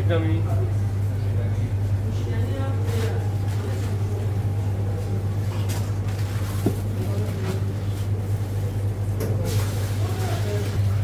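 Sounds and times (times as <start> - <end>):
kitchen machinery hum: 0.0 - 11.0.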